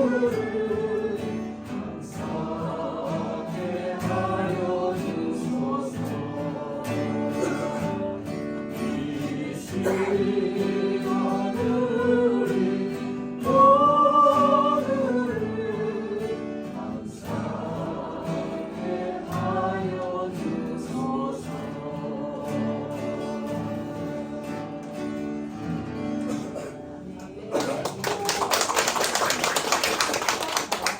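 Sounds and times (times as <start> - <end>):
vocal ensemble singing gospel: 0.0 - 25.8
strummed acoustic guitars: 0.0 - 30.8.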